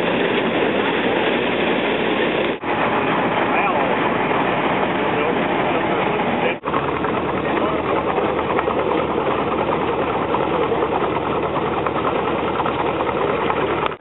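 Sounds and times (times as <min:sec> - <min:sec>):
steam engine running: 0:00.0 - 0:14.0.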